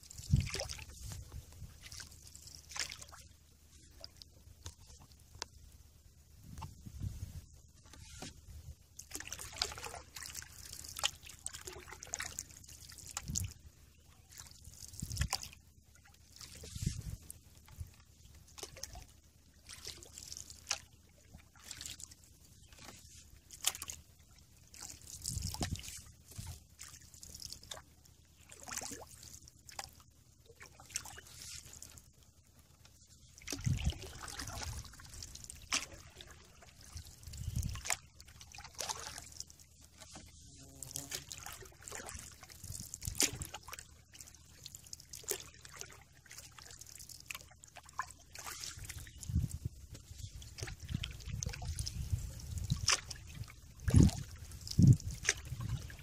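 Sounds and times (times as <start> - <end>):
paddle strokes in water: 0.0 - 5.6, 6.5 - 56.0.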